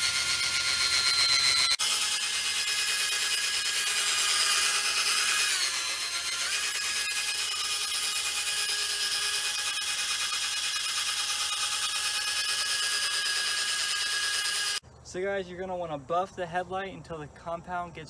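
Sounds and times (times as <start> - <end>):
buffing pad polishing plastic: 0.0 - 14.8
electric drill motor whine: 0.0 - 14.8.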